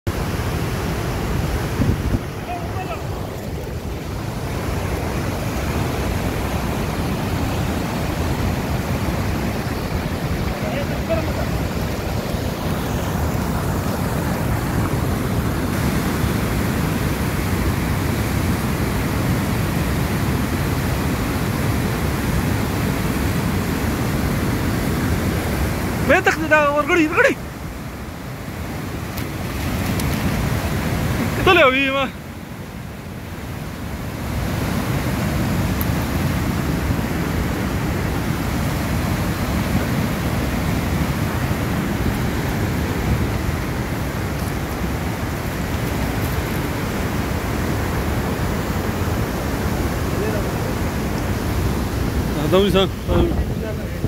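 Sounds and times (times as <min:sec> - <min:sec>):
river rushing over rapids: 0:00.1 - 0:54.0.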